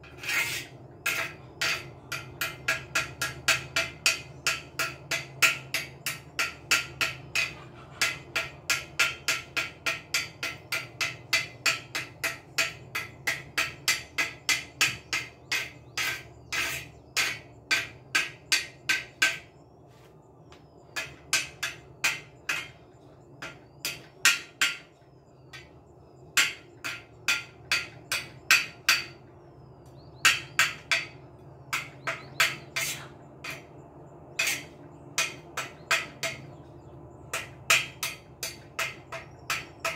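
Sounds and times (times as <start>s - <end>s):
hammer striking metal: 0.3s - 19.6s, 20.9s - 29.3s, 29.9s - 36.6s, 37.3s - 39.9s.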